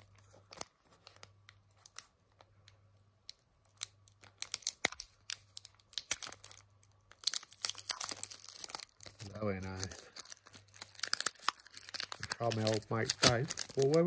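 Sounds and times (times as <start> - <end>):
foil wrapper crinkling and tearing: 0.0 - 2.5, 3.6 - 14.0.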